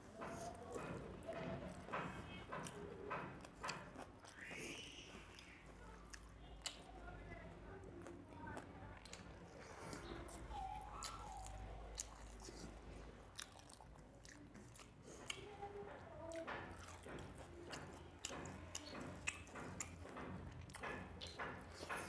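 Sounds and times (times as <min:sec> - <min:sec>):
chewing and lip smacking: 0:00.0 - 0:22.0.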